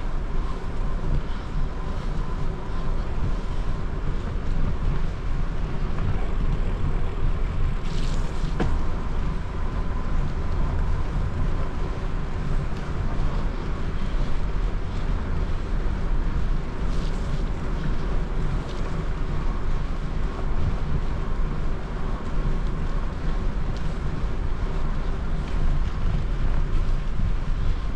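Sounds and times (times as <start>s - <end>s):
low rumble of bicycle ride: 0.0s - 27.9s
wind rushing on microphone: 0.0s - 27.9s.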